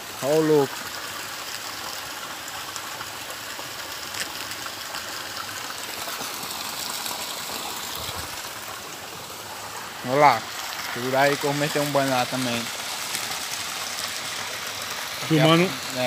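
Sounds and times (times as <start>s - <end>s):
water splashing onto rocks: 2.7s - 16.0s.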